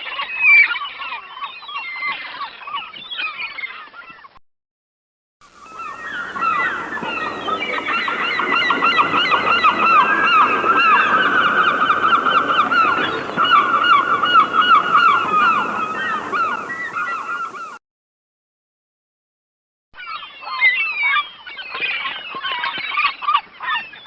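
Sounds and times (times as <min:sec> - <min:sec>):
flock of birds calling: 0:00.0 - 0:04.4, 0:05.5 - 0:17.8, 0:20.0 - 0:24.0.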